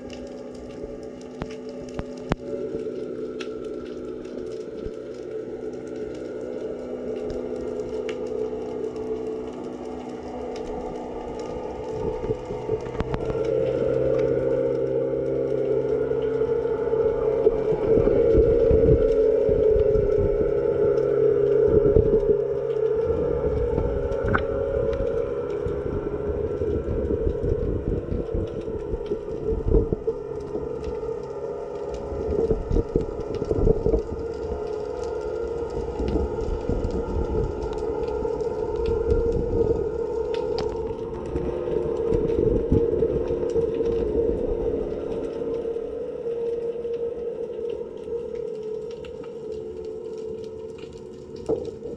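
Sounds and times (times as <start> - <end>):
underwater droning hum: 0.0 - 51.9.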